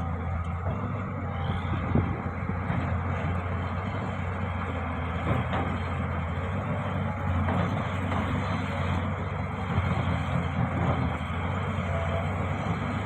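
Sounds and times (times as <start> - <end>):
heavy machine diesel engine running: 0.0 - 13.0.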